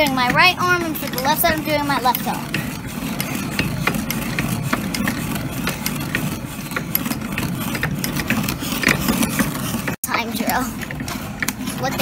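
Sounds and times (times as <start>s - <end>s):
hand drill grinding through wood: 0.0s - 12.0s.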